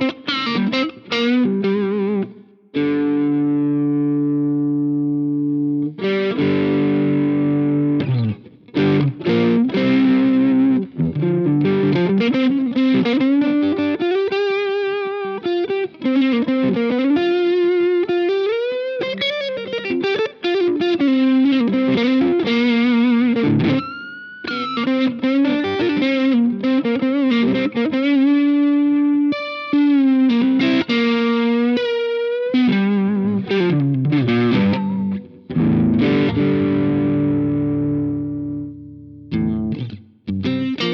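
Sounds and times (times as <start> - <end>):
overdriven electric guitar lead: 0.0 - 40.9.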